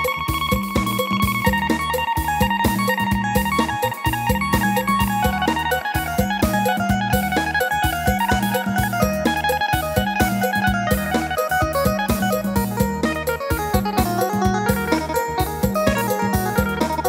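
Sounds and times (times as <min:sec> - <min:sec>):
keyboard melody with bass and beat: 0:00.0 - 0:17.0.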